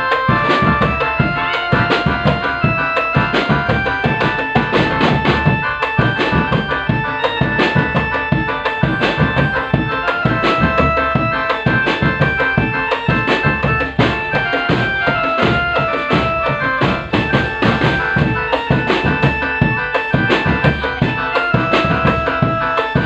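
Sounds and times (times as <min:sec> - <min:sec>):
drum band music: 0:00.0 - 0:23.0.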